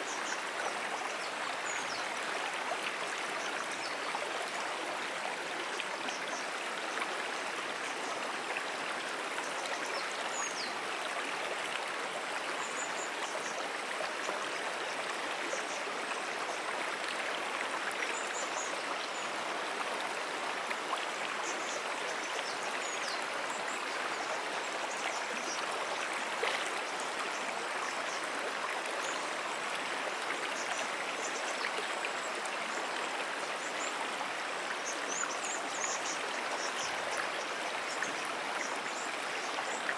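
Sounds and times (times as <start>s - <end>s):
brook water rushing: 0.0s - 39.9s.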